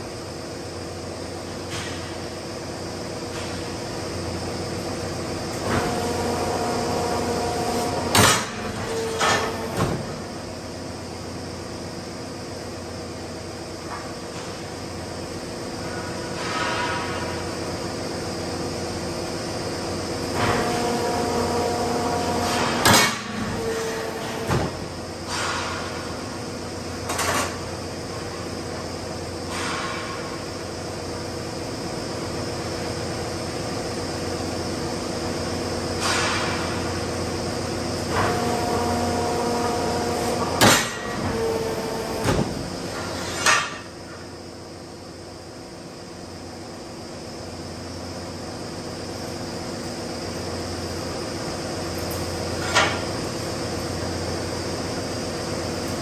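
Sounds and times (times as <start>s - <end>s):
metalworking machinery humming: 0.0s - 56.0s.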